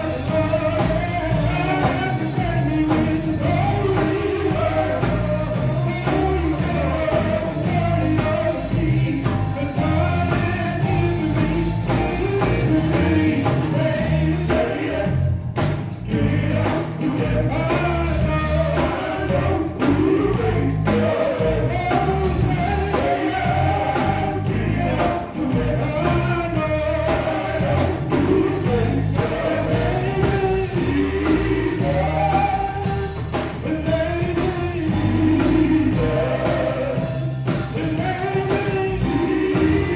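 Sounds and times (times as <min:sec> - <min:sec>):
band with keyboard drums and guitars: 0:00.0 - 0:39.9
male vocal group singing gospel: 0:00.0 - 0:39.9.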